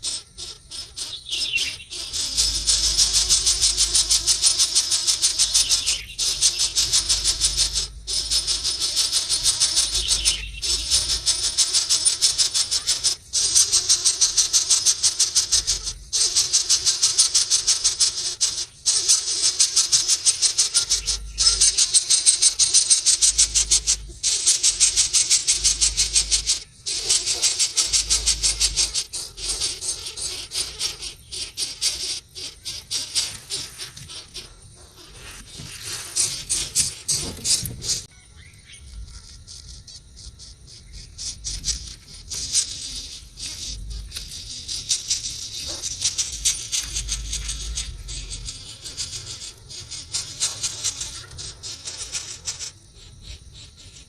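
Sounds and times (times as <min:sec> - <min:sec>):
small bird rattling trill: 0:00.0 - 0:54.0.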